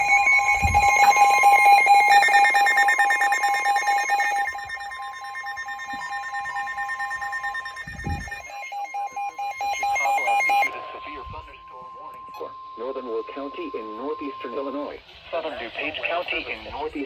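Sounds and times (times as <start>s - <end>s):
repeating electronic beeps: 0.0s - 15.0s
steady warning tone: 0.0s - 16.6s.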